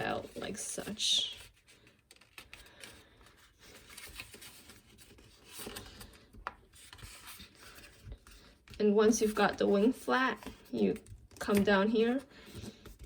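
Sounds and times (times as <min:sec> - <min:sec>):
paper rustling and creasing: 0:00.0 - 0:13.0.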